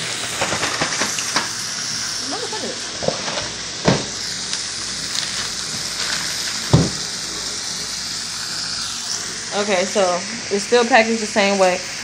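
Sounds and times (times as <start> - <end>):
burger patties sizzling in a skillet: 0.0 - 12.0.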